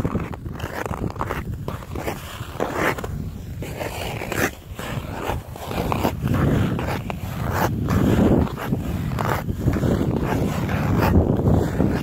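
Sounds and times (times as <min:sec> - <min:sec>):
ice skates scraping on ice: 0:00.0 - 0:12.0.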